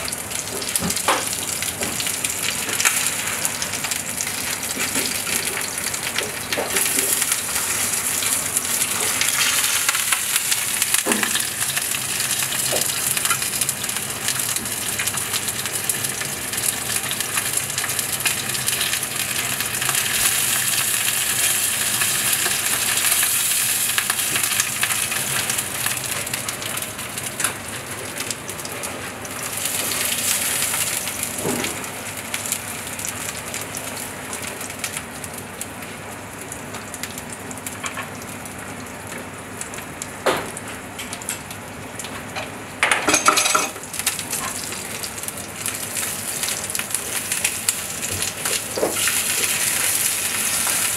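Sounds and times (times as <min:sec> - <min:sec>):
meat sizzling in a frying pan: 0:00.0 - 0:50.9.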